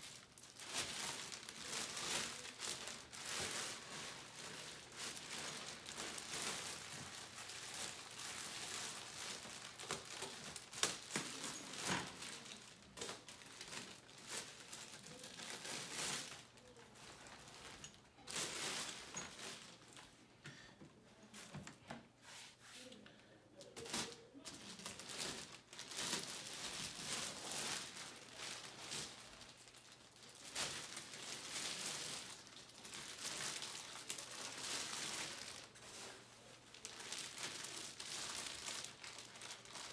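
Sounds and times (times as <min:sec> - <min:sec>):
plastic wrap crinkling: 0:00.0 - 0:20.2, 0:23.6 - 0:39.9.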